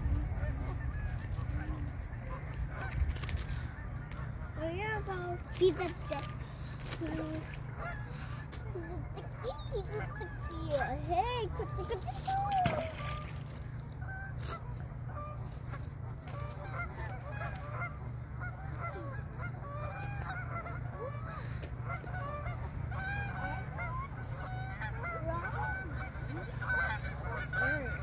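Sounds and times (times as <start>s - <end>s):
geese honking: 0.0s - 28.0s
steady low rumble: 0.0s - 28.0s.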